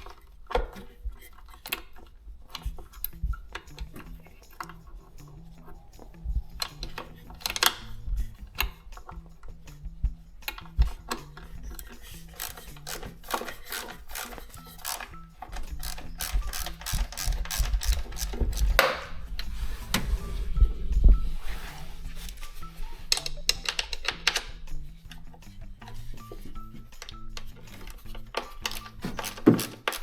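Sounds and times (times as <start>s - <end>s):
ratchet wrench clicking: 0.0s - 19.6s, 22.2s - 30.0s.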